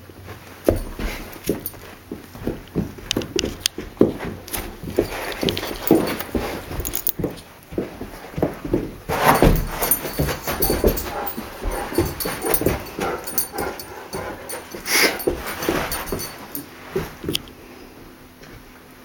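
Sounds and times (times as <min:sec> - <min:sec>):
scuffling movement: 0:00.3 - 0:17.4.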